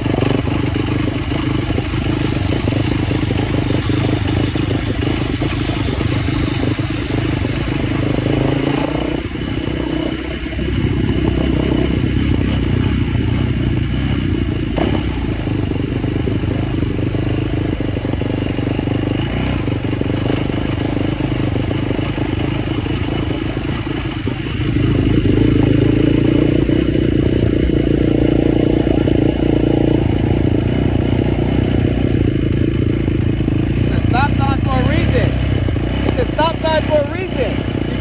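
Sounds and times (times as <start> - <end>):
motorbike engine running: 0.0 - 38.0.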